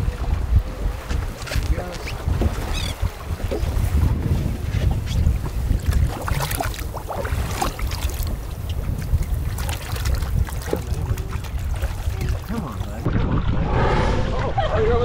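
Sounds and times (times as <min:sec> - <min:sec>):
water splashes and hull knocks: 0:00.0 - 0:13.3
wind rumbling on microphone: 0:00.0 - 0:15.0.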